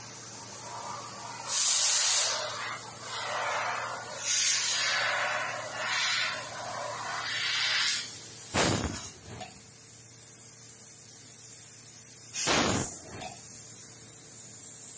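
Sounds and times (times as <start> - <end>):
faint machine hum: 0.0 - 14.9
laser cutter gas hiss bursts: 0.0 - 14.9.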